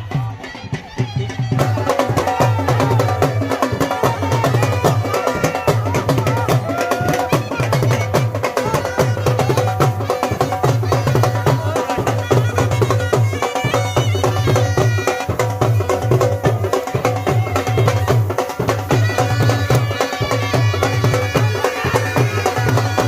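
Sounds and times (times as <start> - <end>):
dhol drums beating: 0.0 - 23.0
wind instrument melody: 0.0 - 23.0.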